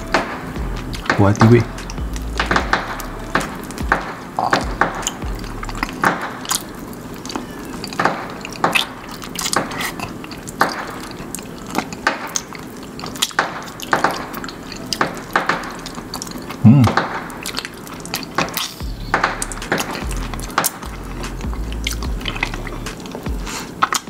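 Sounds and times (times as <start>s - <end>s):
wet chewing and lip smacking: 0.0s - 24.0s.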